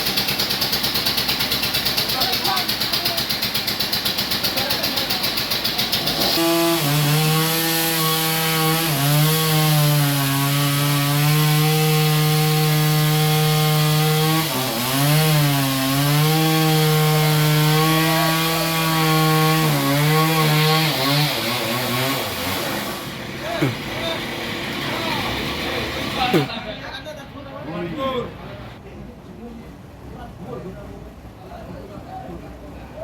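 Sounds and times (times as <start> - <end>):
band saw cutting log: 0.0 - 26.5.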